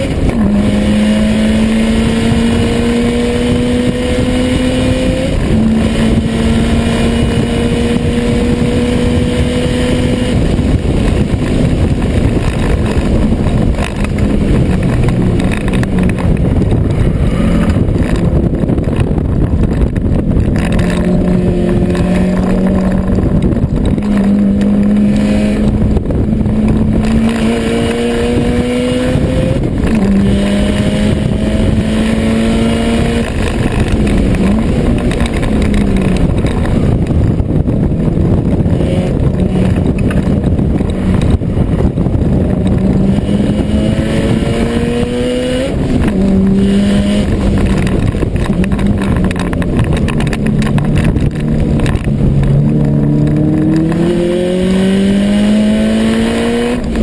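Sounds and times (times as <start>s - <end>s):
car engine under hard driving: 0.0s - 57.0s
road and wind noise: 0.0s - 57.0s.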